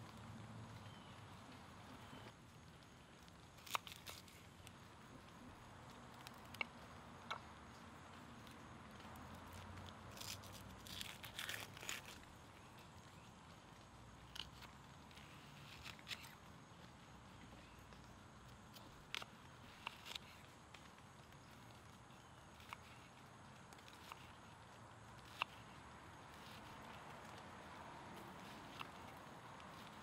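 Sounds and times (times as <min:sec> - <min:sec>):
dry onion skin crackling: 0:00.0 - 0:30.0.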